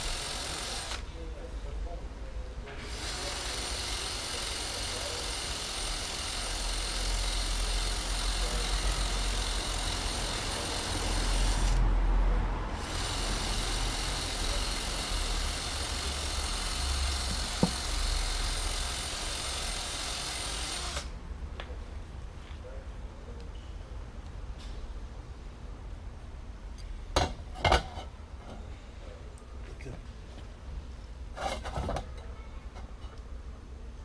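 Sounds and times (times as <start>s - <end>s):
traffic rumble: 0.0s - 3.6s, 6.5s - 34.0s.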